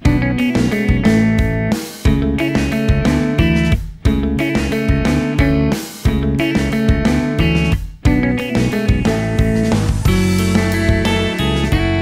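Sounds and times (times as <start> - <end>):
instrumental guitar music: 0.0 - 12.0.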